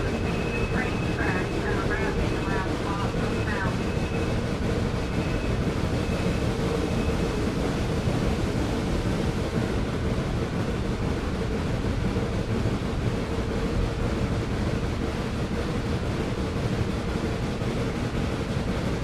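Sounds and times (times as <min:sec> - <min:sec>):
moving train rumble: 0:00.0 - 0:19.0.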